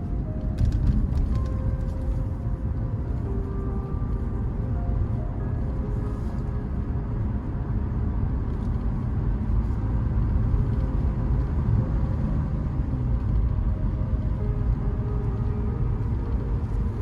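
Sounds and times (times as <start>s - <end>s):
vehicle driving rumble: 0.0s - 17.0s.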